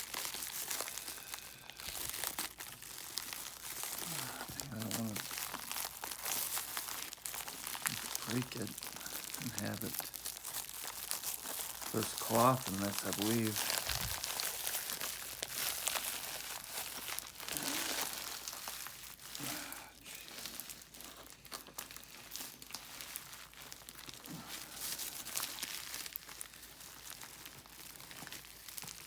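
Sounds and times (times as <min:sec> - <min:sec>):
packaging crinkling and rustling: 0:00.0 - 0:29.0
packaging tearing: 0:00.0 - 0:29.0.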